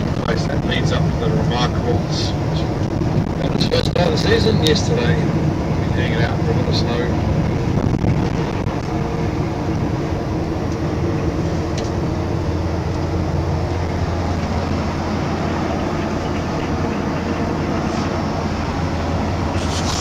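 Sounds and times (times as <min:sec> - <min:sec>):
bus engine drone inside cabin: 0:00.0 - 0:20.0.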